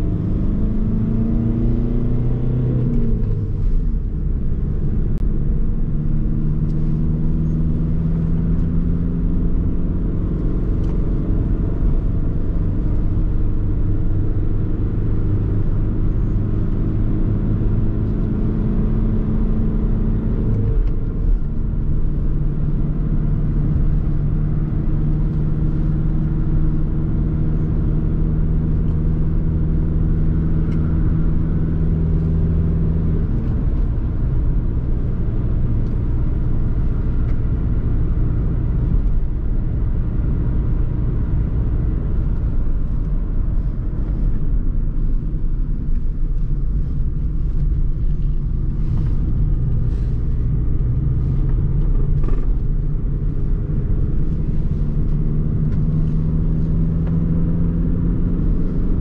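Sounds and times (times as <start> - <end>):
diesel engine pulling steadily: 0.0 - 59.0
tyre and road rumble: 0.0 - 59.0.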